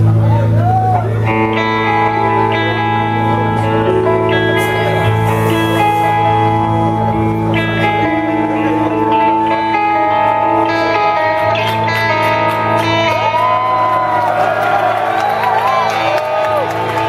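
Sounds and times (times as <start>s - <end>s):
guitar melody: 0.0s - 17.0s
steady low drone: 0.0s - 17.0s.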